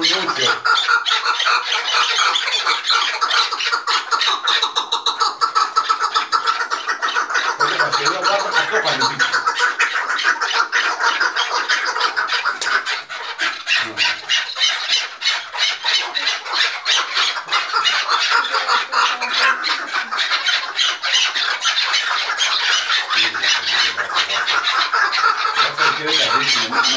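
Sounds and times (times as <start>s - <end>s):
partridges calling harshly: 0.0s - 26.9s.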